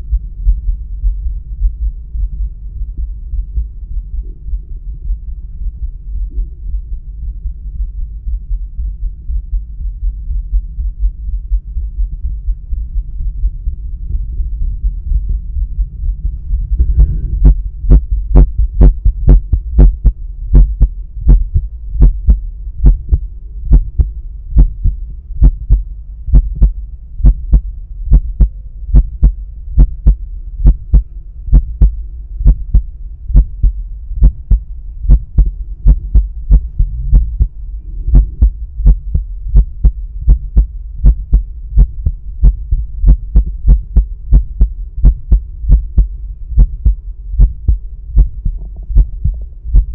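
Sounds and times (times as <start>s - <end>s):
heartbeat through stethoscope: 0.0s - 49.9s
low stethoscope hum: 0.0s - 49.9s.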